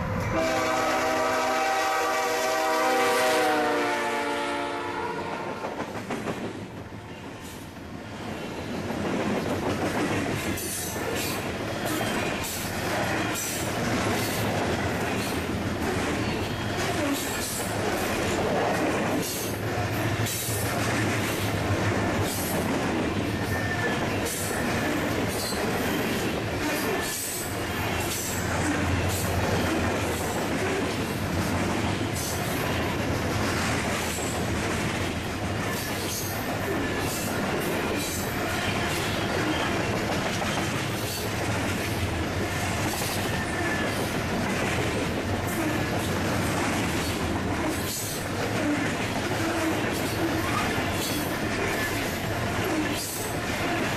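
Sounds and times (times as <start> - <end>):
clicks and knocks of railcars: 4.1 - 53.9
steel wheels on rails: 5.2 - 53.9.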